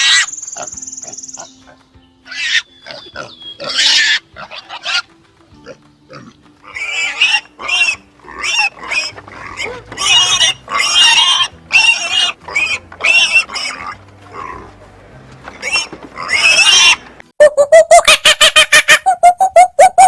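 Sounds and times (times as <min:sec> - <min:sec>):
high-pitched animal calls: 0:00.0 - 0:01.6, 0:02.2 - 0:05.1, 0:06.1 - 0:14.6, 0:15.6 - 0:20.0
faint background music: 0:00.0 - 0:17.2.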